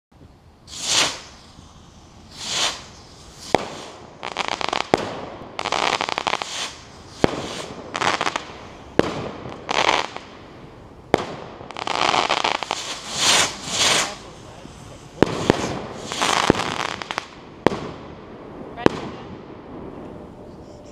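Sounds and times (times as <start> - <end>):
firework bangs: 0.6 - 20.9
firework crackling: 0.6 - 20.9
firework rockets whooshing up: 0.6 - 20.9.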